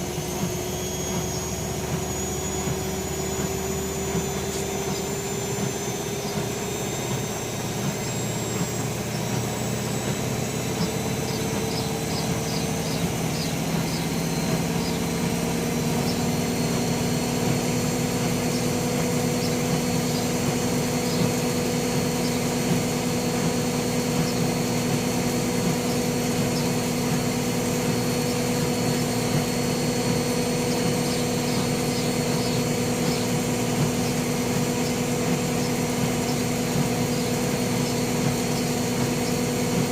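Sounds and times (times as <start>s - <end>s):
washing machine motor whine: 0.0s - 39.9s.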